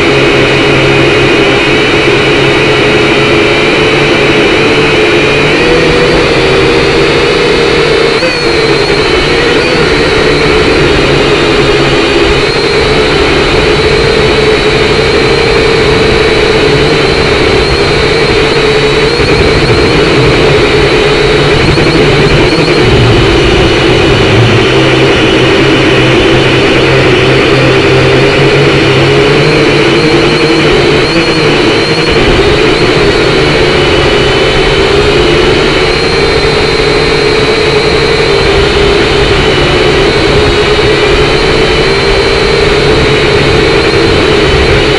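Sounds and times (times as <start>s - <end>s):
quadcopter motors whining: 0.0s - 44.9s.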